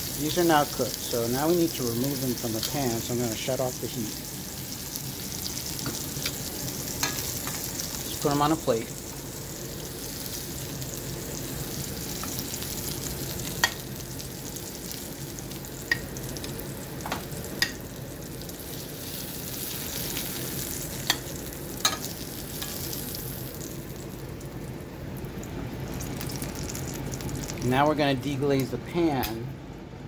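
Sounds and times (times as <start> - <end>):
scallops sizzling in hot oil: 0.0 - 27.6.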